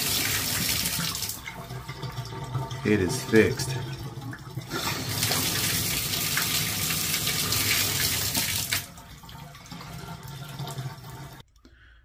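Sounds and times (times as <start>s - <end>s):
water gushing from bathtub spout: 0.0s - 11.4s.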